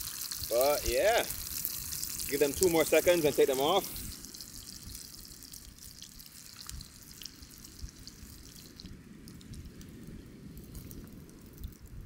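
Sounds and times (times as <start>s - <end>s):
onion rings sizzling in oil: 0.0s - 11.1s.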